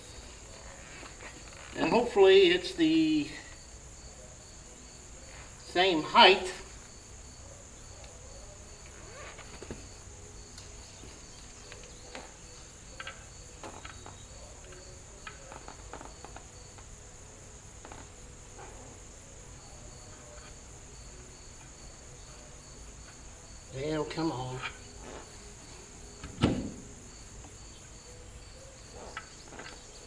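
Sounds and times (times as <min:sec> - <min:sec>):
crickets and insects chirping: 0:00.0 - 0:30.0.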